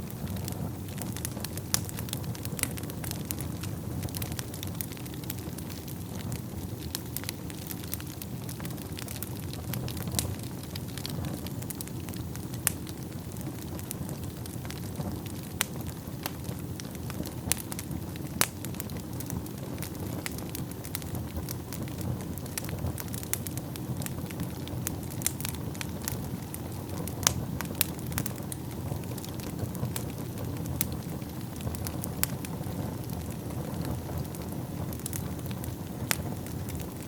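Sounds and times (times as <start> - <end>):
fire crackling and popping: 0.0 - 37.0
fire flames rumbling: 0.0 - 37.0.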